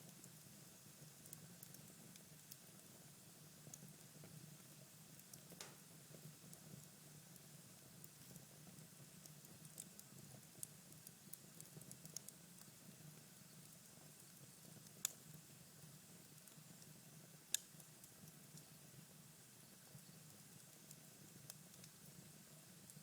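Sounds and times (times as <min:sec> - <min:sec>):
fireplace fire crackling: 0:00.1 - 0:23.0.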